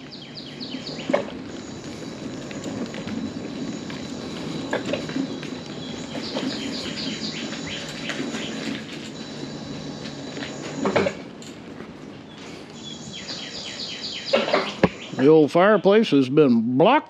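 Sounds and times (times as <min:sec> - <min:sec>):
songbird singing: 0:00.0 - 0:11.1, 0:12.0 - 0:15.8
steady low background noise: 0:00.0 - 0:17.0.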